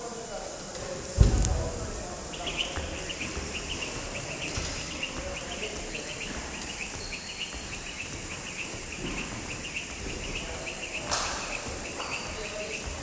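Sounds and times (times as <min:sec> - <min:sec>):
jump rope whipping: 0:01.2 - 0:13.0.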